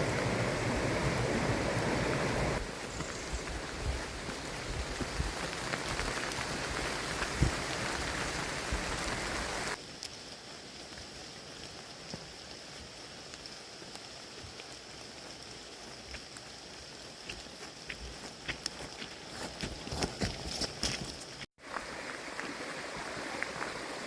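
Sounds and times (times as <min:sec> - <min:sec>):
steady rain: 0:00.0 - 0:19.7, 0:21.6 - 0:24.0
scattered water drips: 0:00.0 - 0:19.8.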